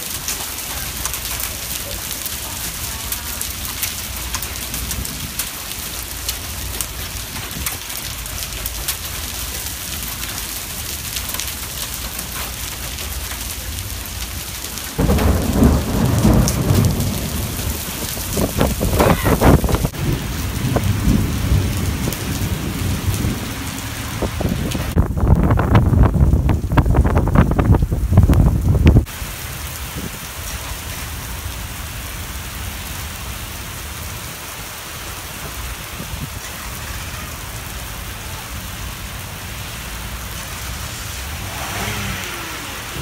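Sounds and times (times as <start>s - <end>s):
rain and hail on concrete: 0.0s - 43.0s.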